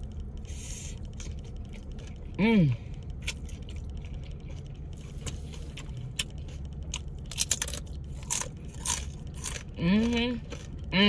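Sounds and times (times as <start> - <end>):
chewing crunchy chips: 0.0 - 11.0
low hum inside car: 0.0 - 11.0.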